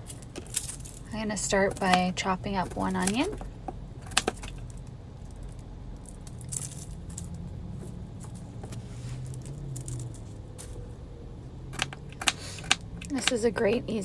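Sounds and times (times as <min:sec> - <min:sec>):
onion peel rustling: 0:00.0 - 0:13.4
low steady hum: 0:00.0 - 0:14.0.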